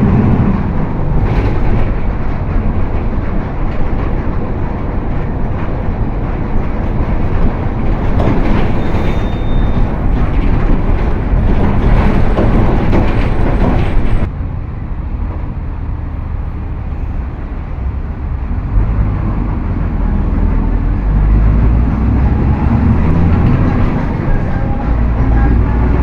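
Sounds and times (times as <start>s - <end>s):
bus drivetrain and road rumble: 0.0s - 26.0s.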